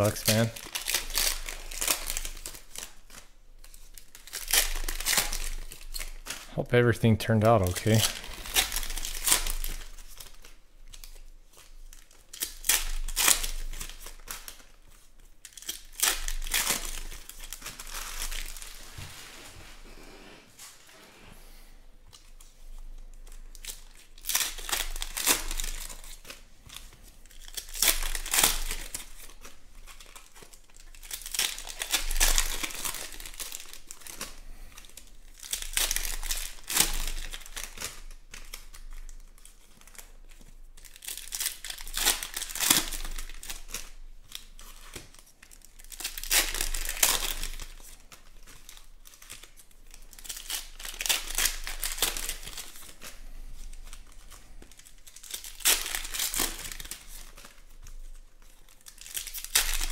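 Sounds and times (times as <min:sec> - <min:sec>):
foil wrappers crinkling and tearing: 0:00.0 - 0:19.7, 0:22.1 - 0:59.9.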